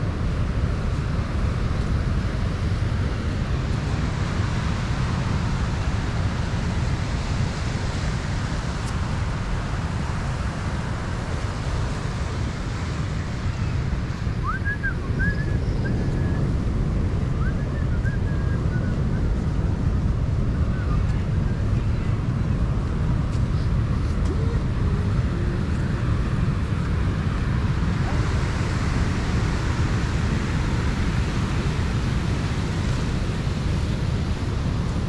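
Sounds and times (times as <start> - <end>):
ocean surf on shore: 0.0 - 35.0
wind buffeting microphone: 0.0 - 35.0.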